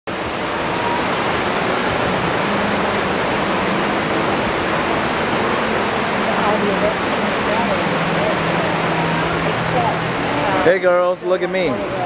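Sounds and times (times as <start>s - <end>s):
water falling into pond: 0.1s - 11.6s.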